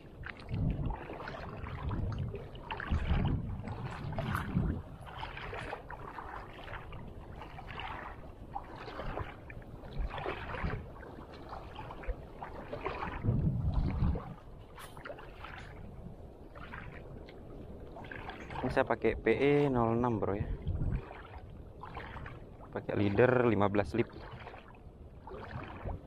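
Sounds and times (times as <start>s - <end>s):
wind gusting on microphone: 0.0s - 11.0s, 12.9s - 24.2s, 25.2s - 26.0s
small waves lapping: 0.0s - 26.0s.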